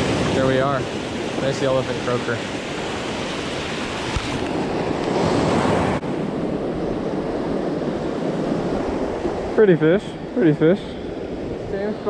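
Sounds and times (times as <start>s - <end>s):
ocean surf washing on sand: 0.0s - 12.0s
wind buffeting microphone: 0.0s - 12.0s.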